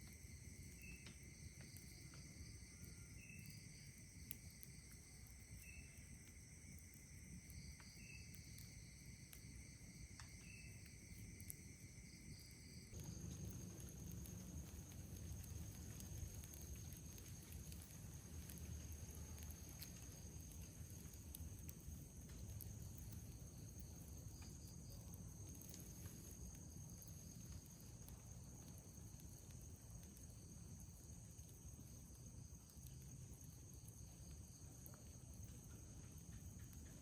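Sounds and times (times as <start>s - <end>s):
campfire crackles: 0.0s - 37.0s
crickets chirring: 0.0s - 37.0s.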